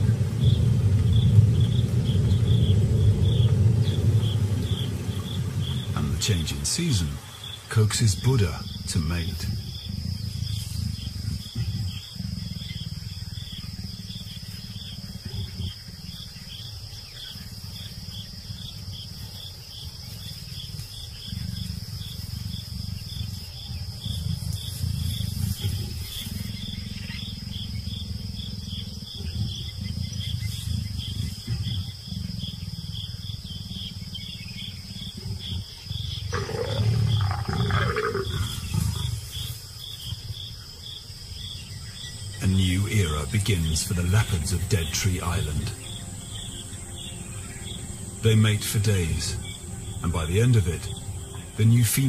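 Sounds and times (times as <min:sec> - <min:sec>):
crickets chirping: 0:00.0 - 0:52.0
leopards growling: 0:00.0 - 0:52.0
leopard snarl: 0:08.1 - 0:52.0.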